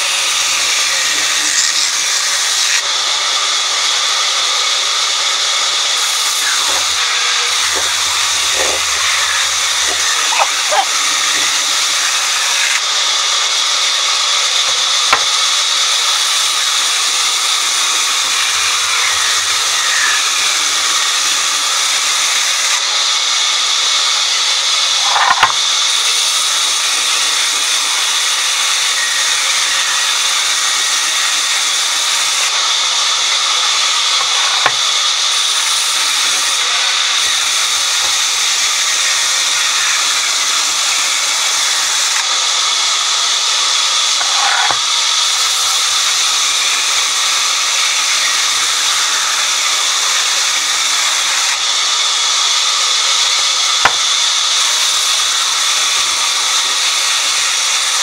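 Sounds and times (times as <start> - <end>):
band saw cutting timber: 0.0 - 58.0.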